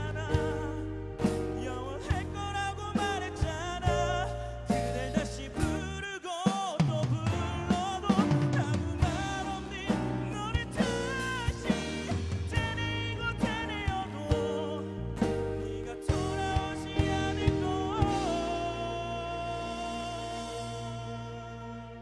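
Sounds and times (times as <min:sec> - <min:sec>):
live band playing pop ballad: 0:00.0 - 0:22.0.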